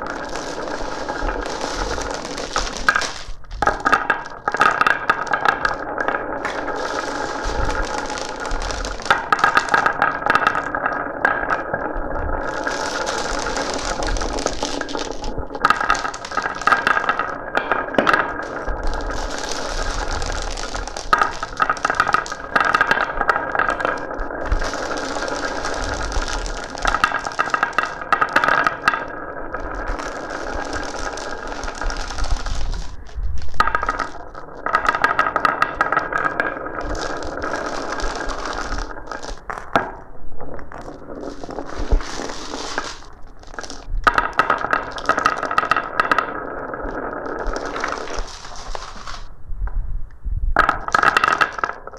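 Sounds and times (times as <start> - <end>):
marbles clicking: 0.0 - 49.3, 50.6 - 51.9
marbles rolling down a marble run: 0.0 - 49.3, 50.6 - 51.9.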